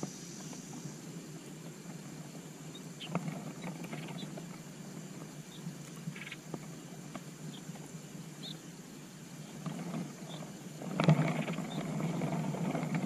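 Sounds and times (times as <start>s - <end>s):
bird chirps and twitter: 0.0s - 12.5s
birds rustling in nest: 0.0s - 13.0s
steady low hum and hiss: 0.0s - 13.0s.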